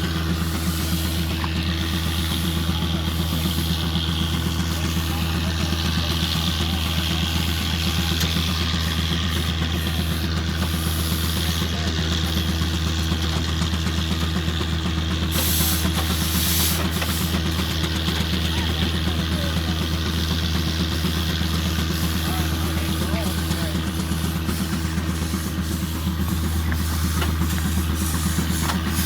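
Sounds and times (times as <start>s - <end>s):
hiss: 0.0s - 6.2s, 7.4s - 13.2s, 15.1s - 29.0s
engine idling: 0.0s - 29.0s.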